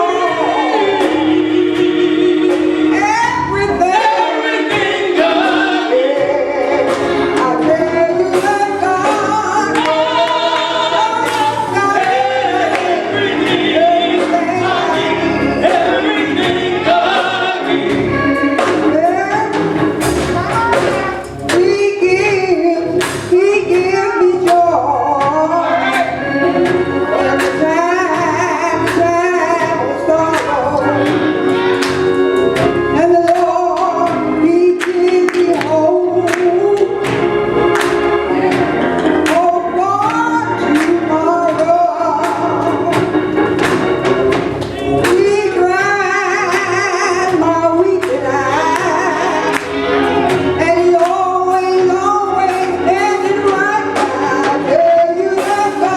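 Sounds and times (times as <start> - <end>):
gospel singing with instruments: 0.0 - 55.9.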